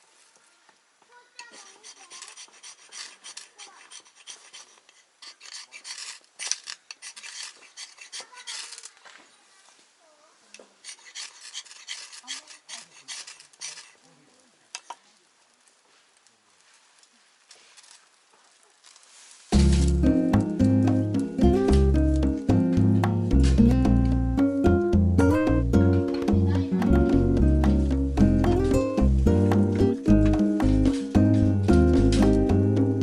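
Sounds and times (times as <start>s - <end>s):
scraping and rubbing: 1.4s - 9.7s, 10.5s - 14.1s, 16.0s - 24.1s, 26.2s - 33.0s.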